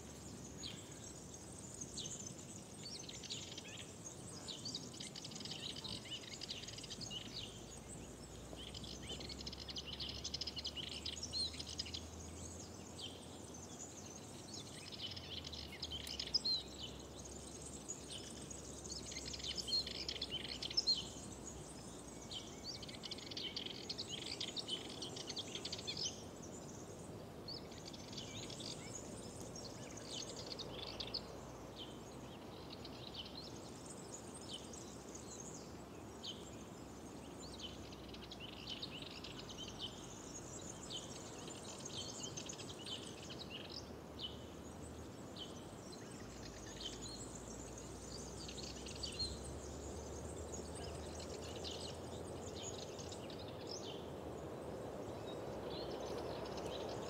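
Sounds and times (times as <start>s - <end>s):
low background hiss: 0.0s - 57.0s
small birds chirping and trilling: 0.0s - 57.0s.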